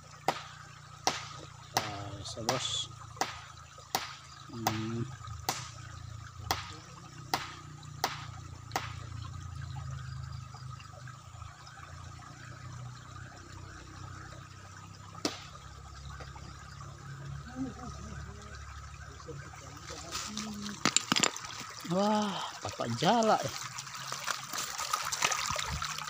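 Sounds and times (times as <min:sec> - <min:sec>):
river water trickling: 0:00.0 - 0:26.0.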